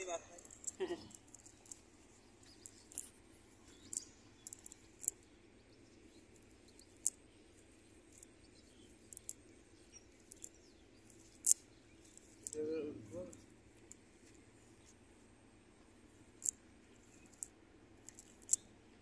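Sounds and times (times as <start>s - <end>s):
low outdoor background: 0.0s - 19.0s.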